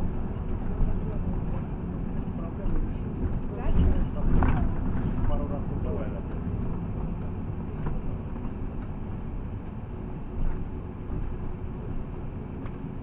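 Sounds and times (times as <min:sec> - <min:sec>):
bus cabin running rumble: 0:00.0 - 0:13.0.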